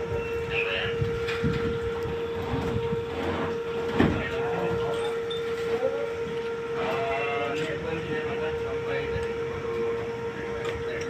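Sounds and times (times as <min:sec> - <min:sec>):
crane humming: 0:00.0 - 0:11.0
machine drone: 0:00.0 - 0:11.0.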